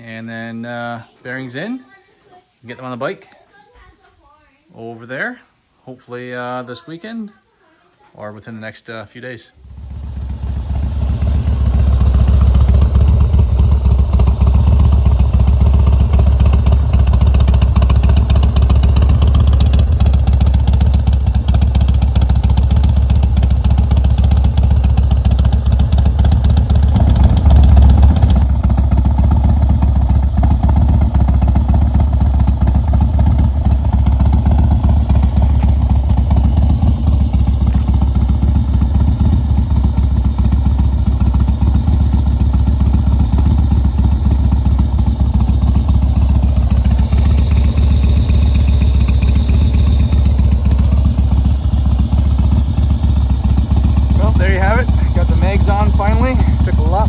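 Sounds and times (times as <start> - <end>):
motorcycle engine rumbling: 9.6 - 57.0.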